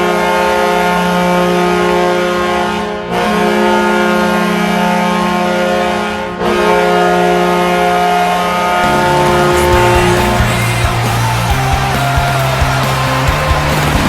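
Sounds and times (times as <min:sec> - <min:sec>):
goal horn blasts: 0:00.0 - 0:14.0.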